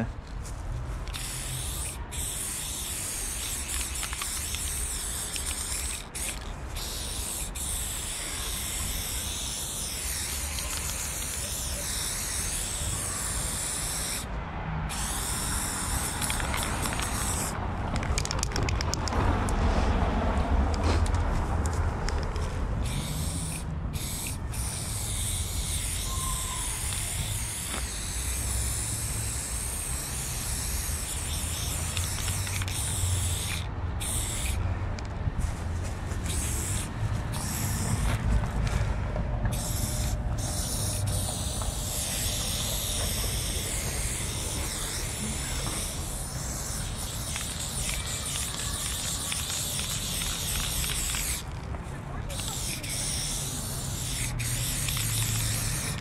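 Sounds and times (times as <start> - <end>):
spray paint can hissing: 0.5 - 14.3, 14.9 - 19.6, 20.7 - 38.8, 39.5 - 51.6, 52.3 - 56.0.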